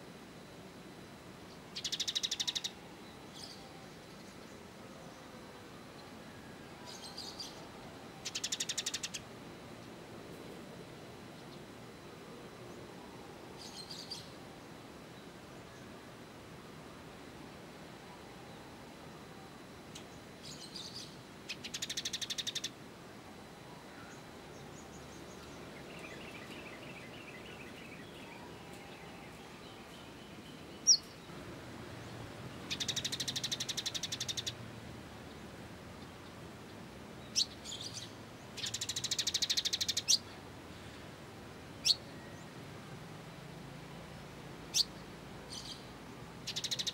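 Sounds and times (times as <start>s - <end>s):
faint background hiss: 0.0s - 46.9s
songbird buzzy trills: 0.0s - 46.9s.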